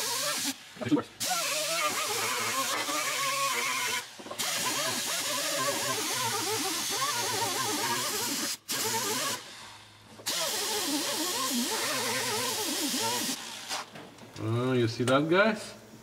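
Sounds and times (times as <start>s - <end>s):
air-powered wire brush grinding: 0.0s - 14.0s.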